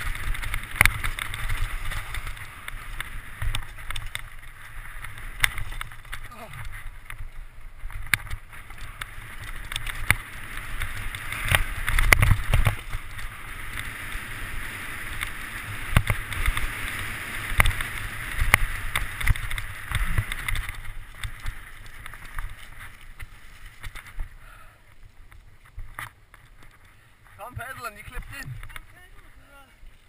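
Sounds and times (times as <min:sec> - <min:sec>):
bike knocks and rattles: 0:00.0 - 0:24.3
tyres rushing on dirt: 0:00.0 - 0:24.6, 0:26.0 - 0:30.0.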